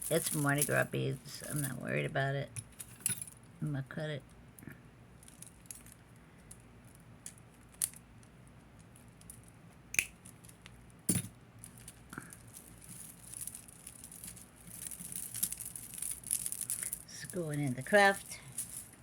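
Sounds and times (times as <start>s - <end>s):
beads and chain clinking: 0.0s - 1.9s, 5.2s - 19.0s.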